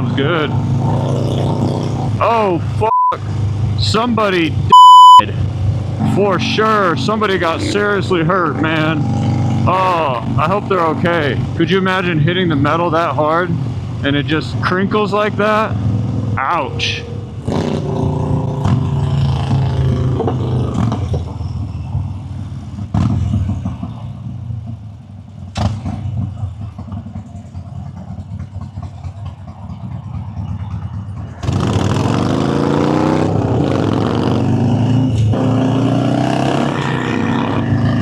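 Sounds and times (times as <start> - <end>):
motorcycle engine running: 5.4 - 38.0.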